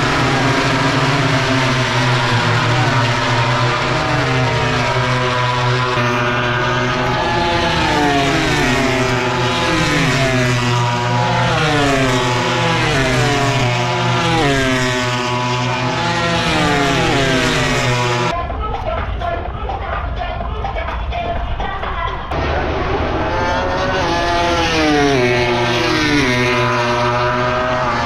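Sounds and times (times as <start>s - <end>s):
racing motorcycle engines: 0.0s - 28.0s.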